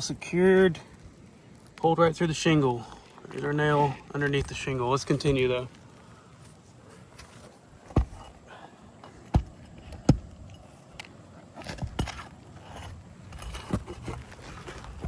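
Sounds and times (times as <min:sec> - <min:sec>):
tools scraping under shingles: 0:02.6 - 0:15.0.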